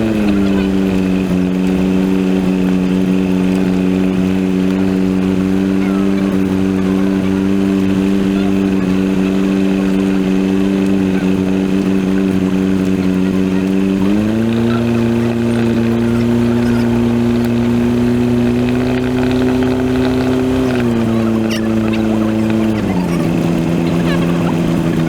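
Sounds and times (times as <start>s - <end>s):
airplane engine and propeller drone: 0.0s - 25.0s.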